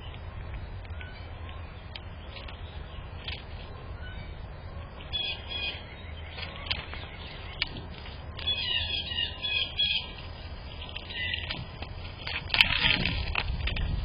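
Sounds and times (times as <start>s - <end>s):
small birds twittering: 0.0s - 11.8s
steady low rumble: 0.0s - 14.0s.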